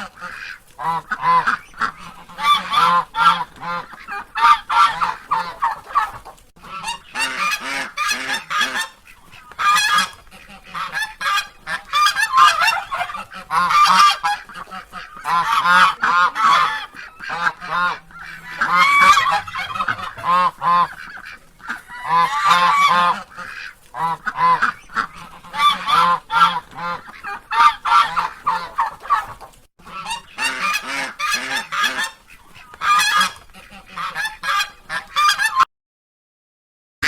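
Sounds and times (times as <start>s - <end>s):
ducks quacking: 0.0s - 35.7s.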